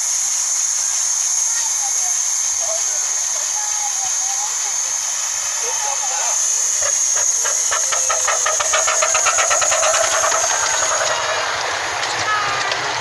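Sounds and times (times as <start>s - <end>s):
steam hissing: 0.0s - 13.0s
steam locomotive exhaust beats: 0.0s - 13.0s.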